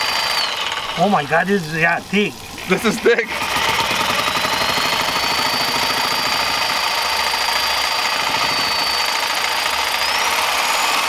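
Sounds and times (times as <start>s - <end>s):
reciprocating saw cutting eggshell: 0.0s - 11.0s.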